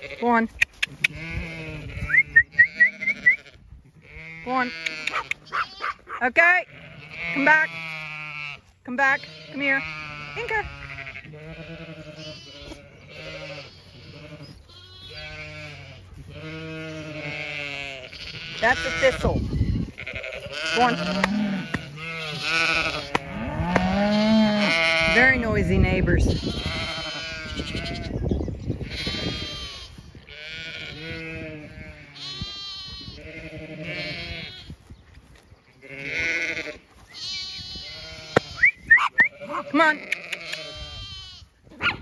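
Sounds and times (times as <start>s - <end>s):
sheep bleating: 1.0s - 34.8s, 35.7s - 41.6s.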